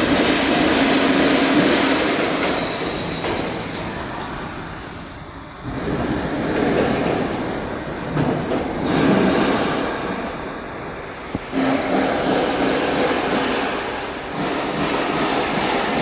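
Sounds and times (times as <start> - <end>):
heavy machinery rumbling: 0.0 - 16.0
steady hum: 0.0 - 16.0.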